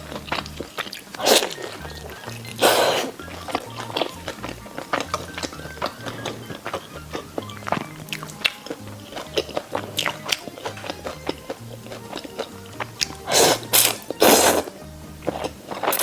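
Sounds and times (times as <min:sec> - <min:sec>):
biting and chewing clicks: 0:00.0 - 0:16.0
noisy bursts: 0:00.0 - 0:16.0
soft background music: 0:00.0 - 0:16.0.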